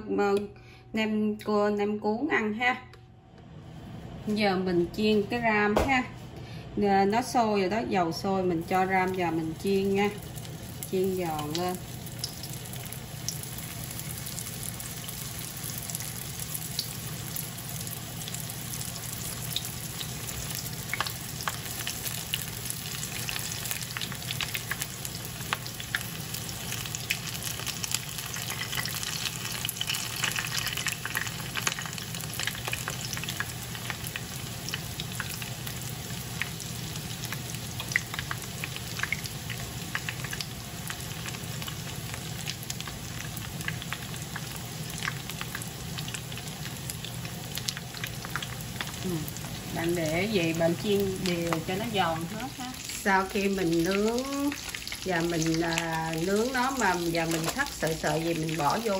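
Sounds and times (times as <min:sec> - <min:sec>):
spring rolls sizzling in oil: 0:08.2 - 0:58.9.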